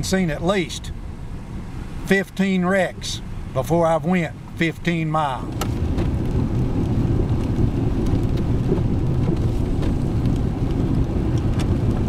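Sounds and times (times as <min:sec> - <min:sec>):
truck driving heard from cab: 0:00.0 - 0:12.0.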